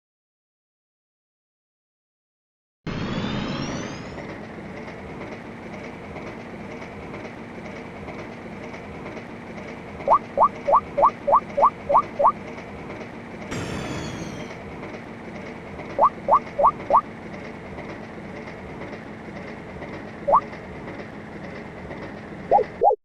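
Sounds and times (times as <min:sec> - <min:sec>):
train rumbling on track: 0:02.9 - 0:23.0.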